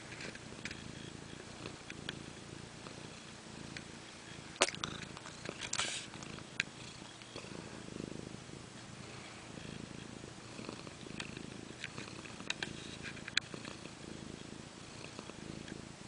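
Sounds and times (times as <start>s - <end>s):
cat snoring: 0.0s - 16.0s.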